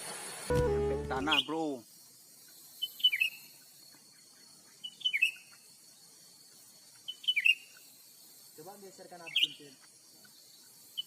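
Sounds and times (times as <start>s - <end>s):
bird chirping: 0.5s - 1.7s, 2.5s - 8.4s, 9.2s - 11.0s.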